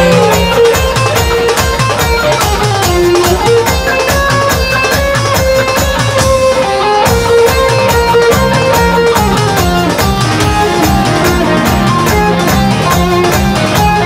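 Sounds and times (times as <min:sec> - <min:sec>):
electric bass guitar: 0:00.0 - 0:14.0
electric guitar: 0:00.0 - 0:14.0
fast drum beat: 0:00.0 - 0:14.0.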